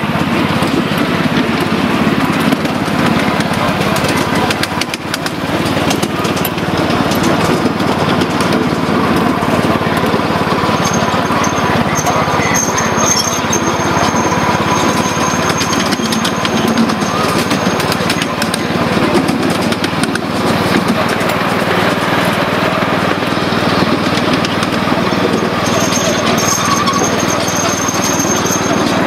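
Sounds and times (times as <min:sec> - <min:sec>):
rapid clicking of train on track: 0:00.0 - 0:29.0
small train engine drone: 0:00.0 - 0:29.0.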